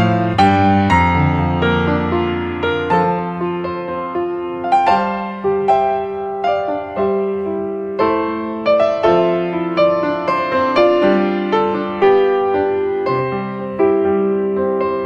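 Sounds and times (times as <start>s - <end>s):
calm piano music: 0.0s - 15.0s.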